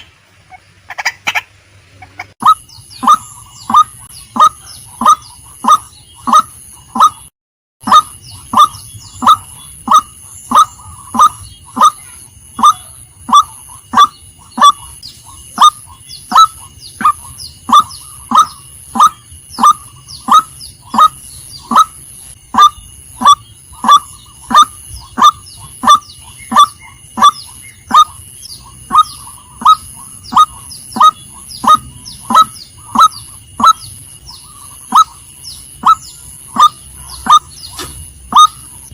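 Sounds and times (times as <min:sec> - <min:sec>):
bird calling: 0:00.0 - 0:38.9.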